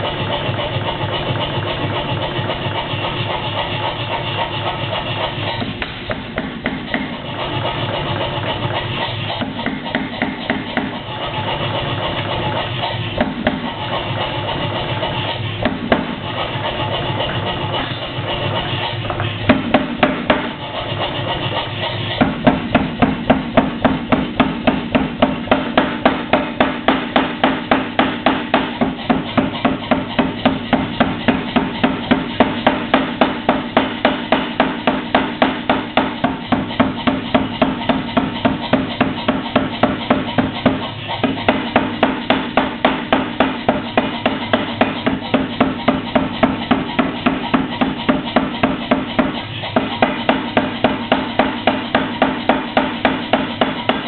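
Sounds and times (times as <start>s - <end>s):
power hammer striking steel: 0.0s - 18.7s, 19.4s - 54.0s.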